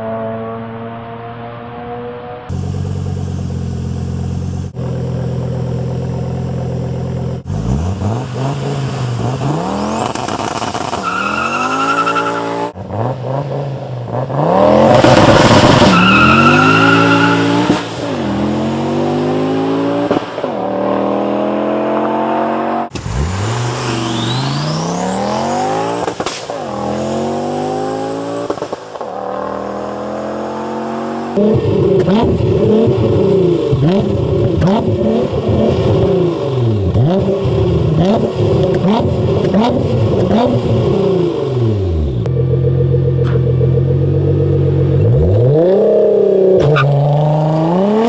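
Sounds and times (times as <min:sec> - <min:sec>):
car engines accelerating hard: 0:07.4 - 0:48.0.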